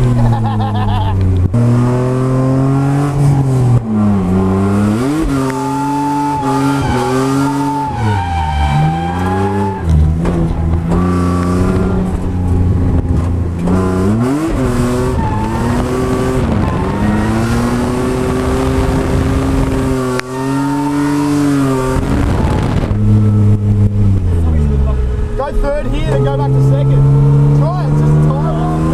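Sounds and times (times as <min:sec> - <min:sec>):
car engine revving hard: 0:00.0 - 0:28.9.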